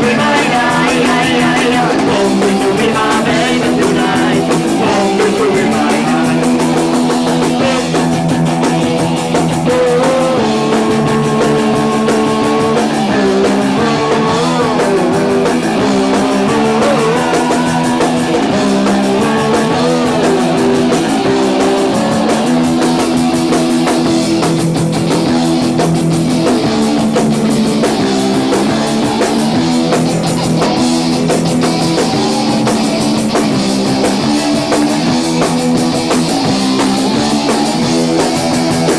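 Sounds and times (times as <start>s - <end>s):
electric guitar: 0.0s - 38.9s
punk rock band playing live: 0.0s - 38.9s.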